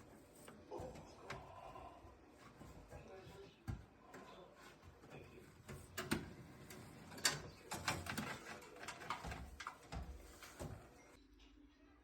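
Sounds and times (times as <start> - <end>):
clicks and knocks of hand work: 0.0 - 11.2.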